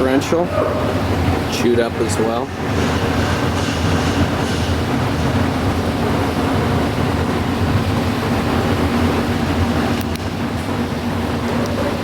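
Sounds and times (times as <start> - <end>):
shop machinery hum: 0.0 - 12.0.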